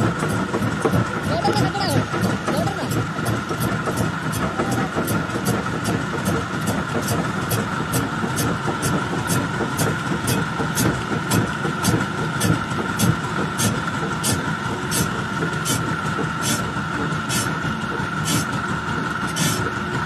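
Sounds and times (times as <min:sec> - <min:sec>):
mechanical whine: 0:00.0 - 0:20.0
rock crusher running: 0:00.0 - 0:20.0.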